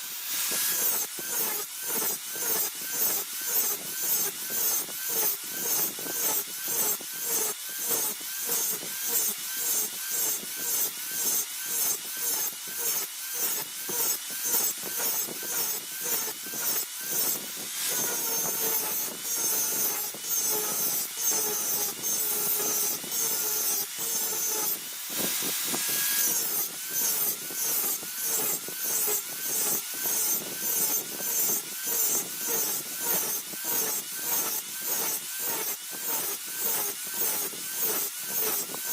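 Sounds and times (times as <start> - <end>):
file rasping on steel blade: 0.0 - 38.9.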